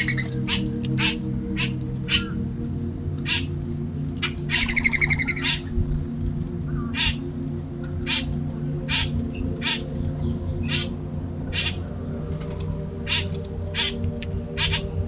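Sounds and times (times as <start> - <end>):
birds giving harsh calls: 0.0 - 2.5, 3.2 - 3.6, 4.2 - 5.8, 6.6 - 15.0
steady low hum: 0.0 - 15.0.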